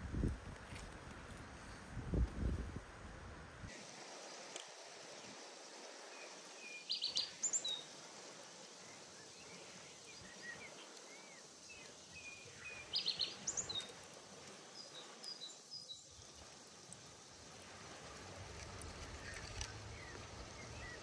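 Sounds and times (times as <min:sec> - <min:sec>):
outdoor background noise: 0:00.0 - 0:21.0
small birds chirping: 0:04.1 - 0:21.0.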